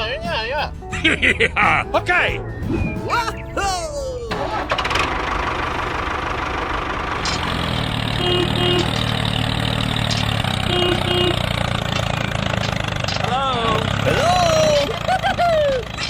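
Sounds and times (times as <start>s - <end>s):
small vehicle engine idling: 0.0s - 16.0s.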